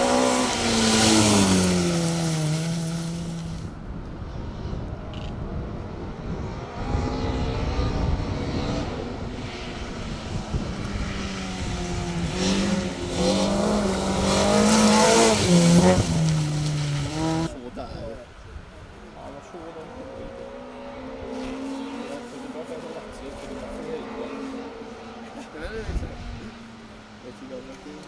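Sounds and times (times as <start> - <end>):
rally car engine revving: 0.0 - 3.7, 6.1 - 17.6, 19.7 - 28.0.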